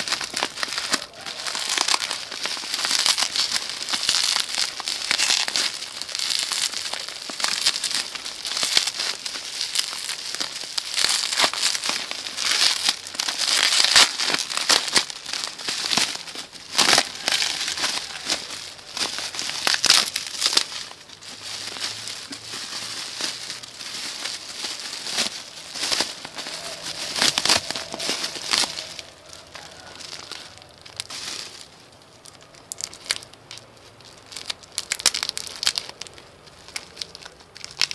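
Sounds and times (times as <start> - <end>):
bubble wrap and plastic crinkling: 0.0 - 37.9.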